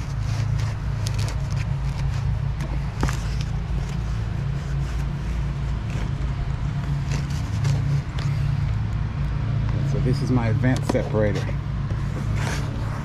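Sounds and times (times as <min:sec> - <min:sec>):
light clicks and scrapes: 0:00.0 - 0:09.0, 0:10.6 - 0:13.0
low mechanical hum: 0:00.0 - 0:13.0.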